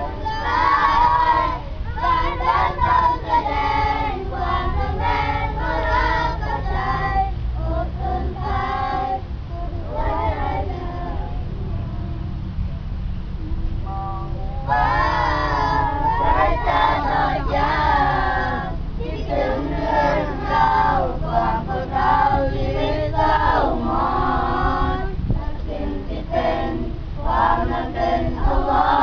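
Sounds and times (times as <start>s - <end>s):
boys singing together: 0.0s - 12.2s, 13.9s - 29.0s
steady low rumble: 0.0s - 29.0s.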